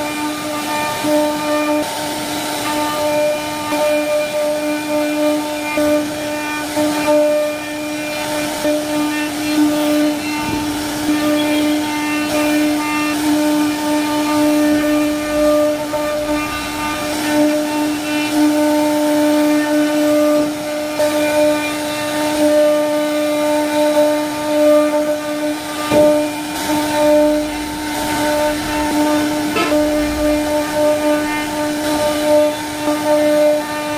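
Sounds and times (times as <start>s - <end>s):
cnc router spindle whine: 0.0s - 33.9s
router bit carving wood: 0.0s - 33.9s.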